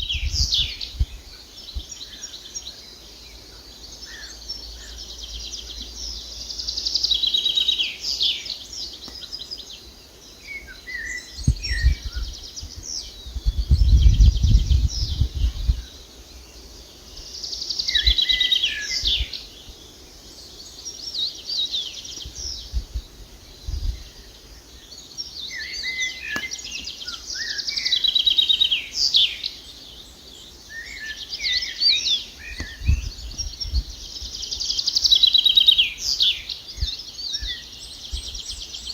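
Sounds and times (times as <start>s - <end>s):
songbirds trilling: 0.0s - 38.9s.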